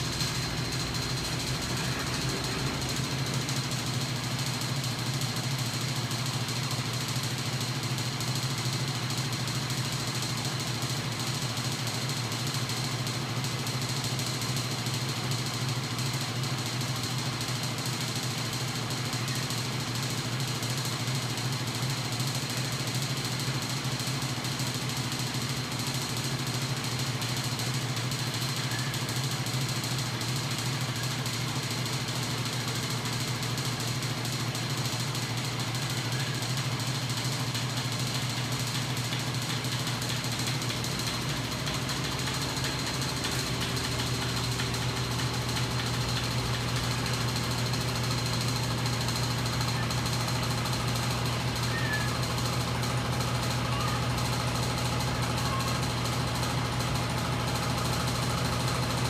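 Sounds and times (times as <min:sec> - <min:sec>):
machine mechanical hum: 0:00.0 - 0:59.0.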